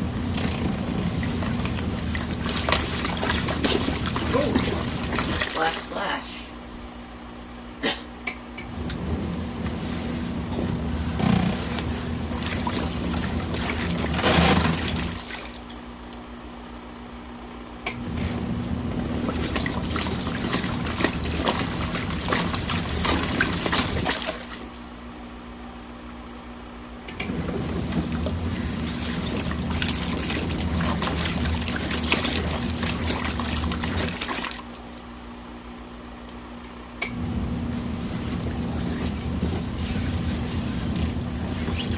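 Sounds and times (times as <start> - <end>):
washing machine churning water: 0.0 - 6.3, 8.6 - 16.8, 17.8 - 25.7, 26.8 - 36.2, 36.9 - 41.9
faint motor hum: 0.0 - 41.9.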